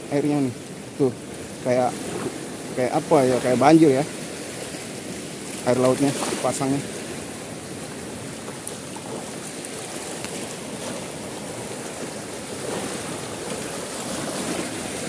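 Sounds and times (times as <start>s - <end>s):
small waves washing over ground: 0.0s - 15.0s.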